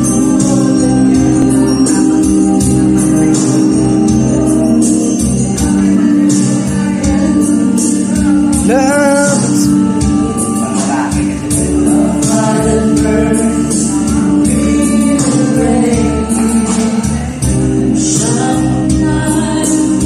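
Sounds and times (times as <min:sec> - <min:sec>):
backing track over loudspeaker: 0:00.0 - 0:20.0
woman singing into microphone: 0:00.0 - 0:20.0.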